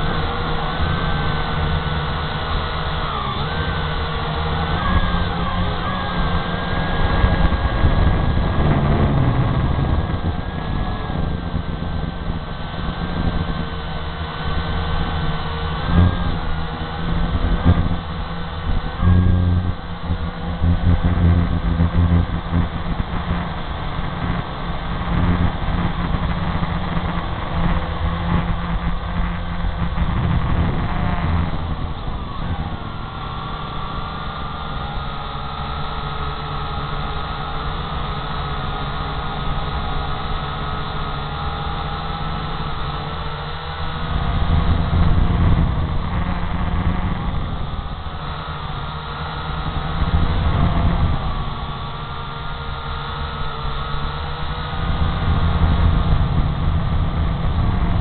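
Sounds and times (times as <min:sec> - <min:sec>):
drone motors whining: 0:00.0 - 0:58.0
low wind rumble: 0:00.0 - 0:58.0.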